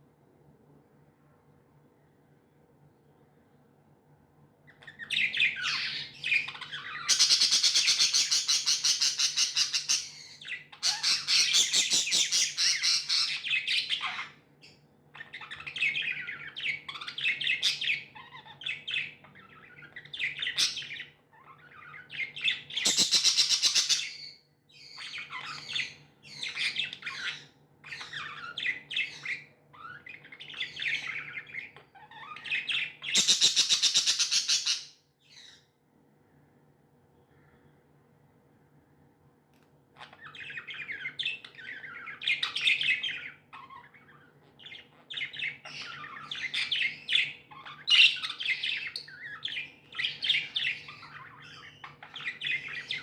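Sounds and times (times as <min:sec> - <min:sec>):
budgerigars chirping: 0:04.7 - 0:35.6, 0:40.0 - 0:53.0.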